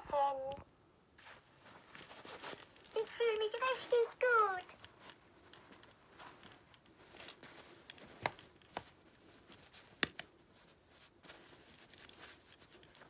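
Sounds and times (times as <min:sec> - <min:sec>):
rustling of plush doll: 0:01.1 - 0:13.0.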